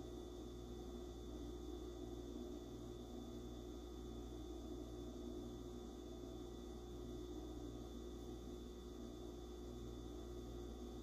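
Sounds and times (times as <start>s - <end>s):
room tone hum and hiss: 0.0s - 11.0s.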